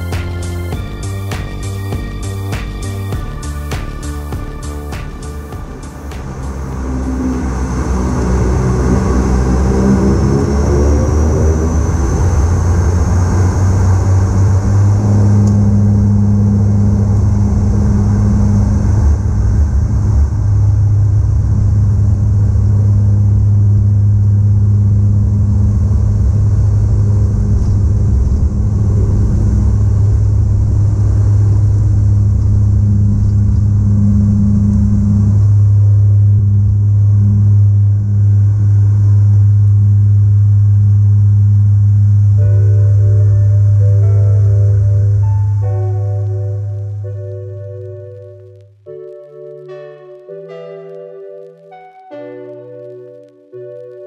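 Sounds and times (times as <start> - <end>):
propeller drone: 0.0 - 47.1
turboprop engines whining: 0.0 - 48.6.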